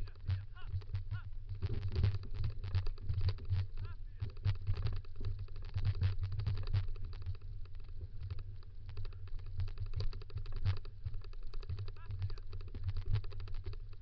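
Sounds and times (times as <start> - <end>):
scooter rolling over rough ground: 0.0 - 14.0.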